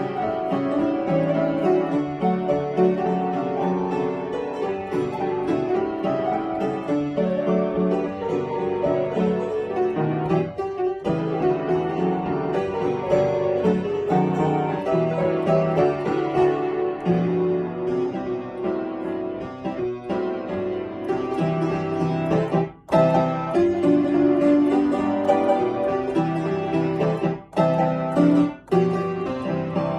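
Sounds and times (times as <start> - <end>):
piano piece: 0.0 - 29.9.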